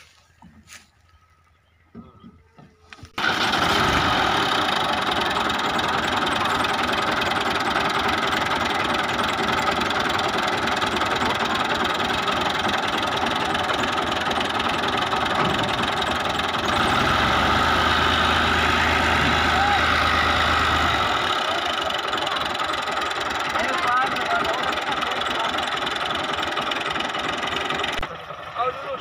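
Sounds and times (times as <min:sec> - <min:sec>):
tractor diesel engine running: 0:01.6 - 0:29.0.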